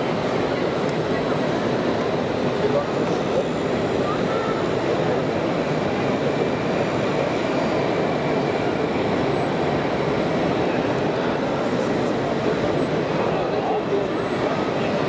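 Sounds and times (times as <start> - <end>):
crowd murmur: 0.0 - 15.0.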